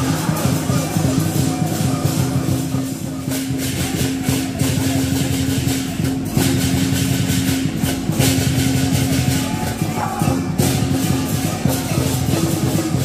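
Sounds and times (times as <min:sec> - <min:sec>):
cymbal strikes: 0:00.0 - 0:13.0
drum strikes: 0:00.0 - 0:13.0.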